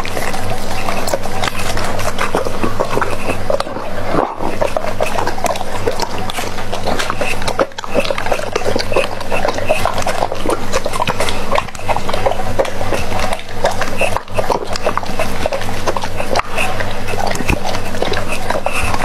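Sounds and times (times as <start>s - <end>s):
dog chewing wetly: 0.0s - 19.0s
steady low hum: 0.0s - 19.0s.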